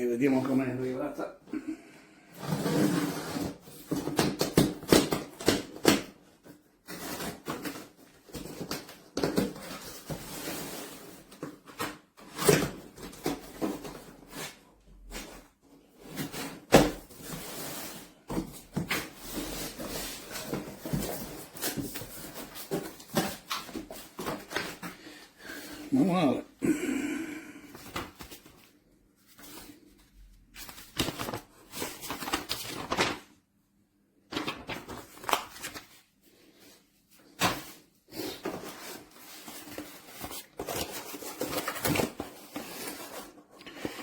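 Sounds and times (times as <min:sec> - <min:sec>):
cardboard packaging rustling: 0:02.7 - 0:26.1, 0:27.6 - 0:33.4, 0:34.3 - 0:44.0.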